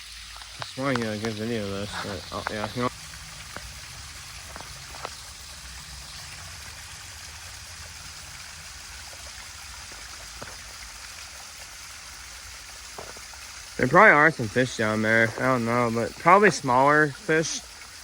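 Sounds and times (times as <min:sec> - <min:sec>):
waterfall and creek rushing: 0:00.0 - 0:18.0.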